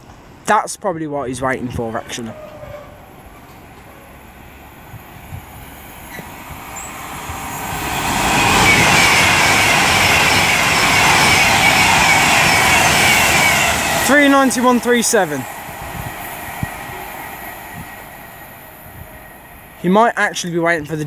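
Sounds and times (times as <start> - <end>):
high train whine: 0.0 - 0.5, 1.4 - 21.0
electric train passing: 2.0 - 20.9.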